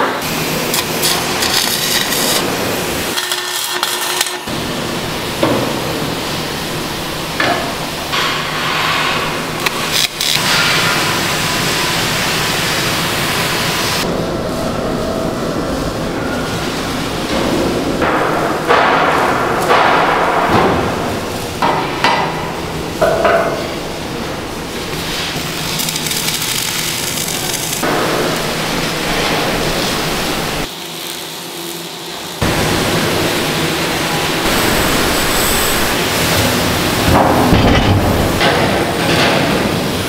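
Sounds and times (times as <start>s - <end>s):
workshop din: 0.0s - 40.0s.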